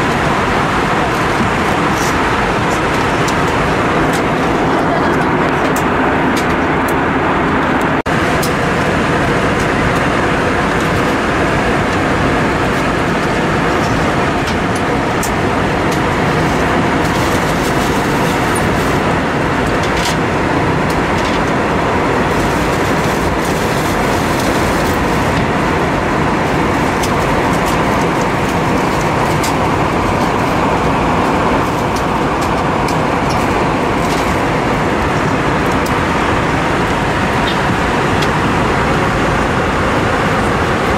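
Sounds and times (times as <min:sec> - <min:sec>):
airplane cabin engine noise: 0:00.0 - 0:40.9.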